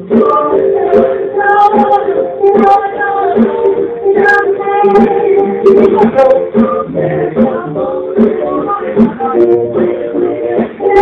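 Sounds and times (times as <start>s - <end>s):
backing band playing: 0.0s - 11.0s
female vocal trio singing: 0.0s - 11.0s.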